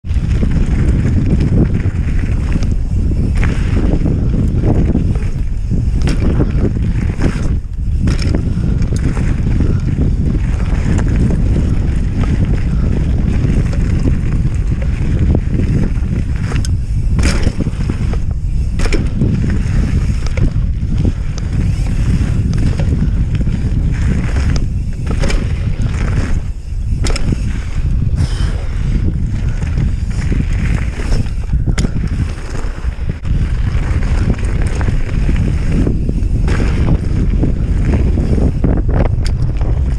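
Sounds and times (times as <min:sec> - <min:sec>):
bike knocking and rattling: 0:00.0 - 0:39.9
wind buffeting microphone: 0:00.0 - 0:39.9
tyres rolling over loose stones: 0:00.1 - 0:39.9.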